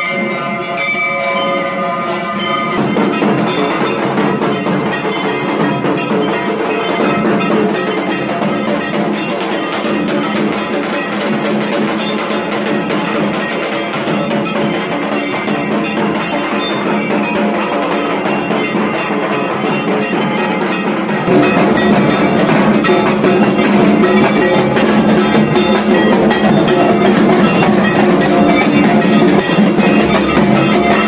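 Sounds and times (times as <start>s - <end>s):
barrel drums beaten fast: 2.2s - 31.0s.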